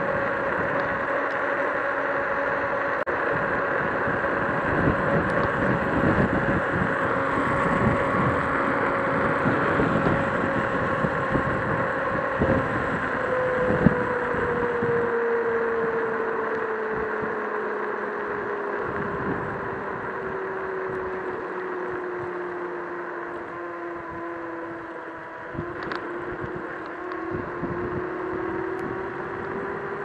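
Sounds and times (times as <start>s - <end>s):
electric scooter motor whine: 0.0s - 30.0s
wind on microphone: 0.0s - 30.0s.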